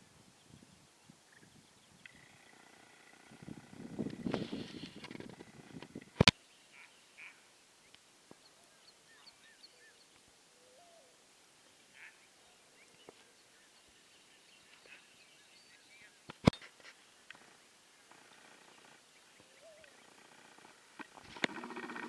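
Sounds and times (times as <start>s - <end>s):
birds chirping: 0.5s - 22.0s.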